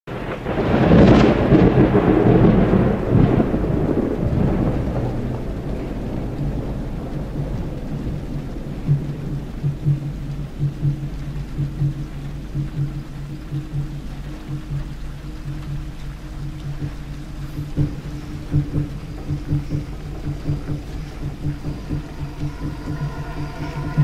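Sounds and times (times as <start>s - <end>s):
deep thunder-like rumble: 0.1s - 24.0s
soft low pulses: 0.6s - 24.0s
steady low hum: 0.6s - 24.0s.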